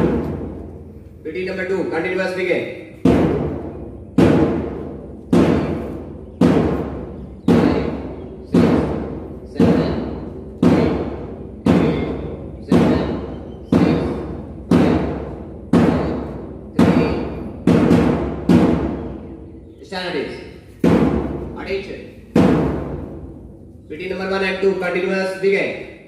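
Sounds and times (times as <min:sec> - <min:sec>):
drums in a steady beat: 0:00.0 - 0:19.7, 0:20.4 - 0:25.1.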